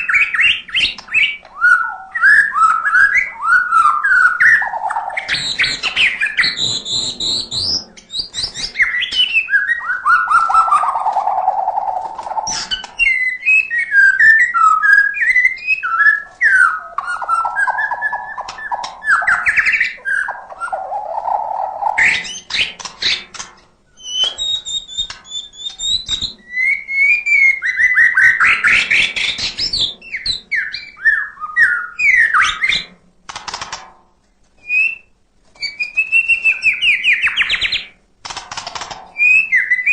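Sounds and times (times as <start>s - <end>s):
bird singing varied song: 0.0s - 32.9s, 34.6s - 38.0s, 38.7s - 39.9s.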